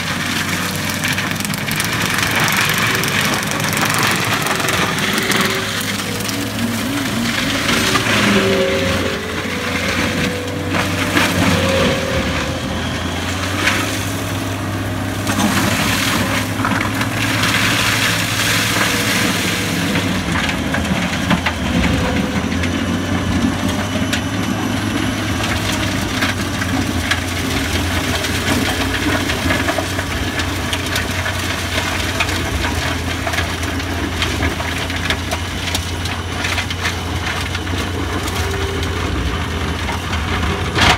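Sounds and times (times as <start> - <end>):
low engine drone: 0.0 - 40.9
rotor crushing and splintering wood: 0.0 - 40.9.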